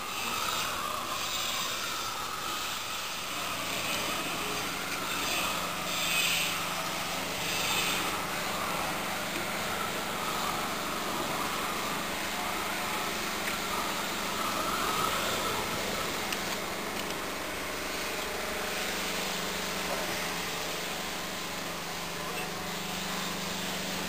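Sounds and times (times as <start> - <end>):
torch flame roaring: 0.0 - 22.1
hissing surges: 0.0 - 24.0.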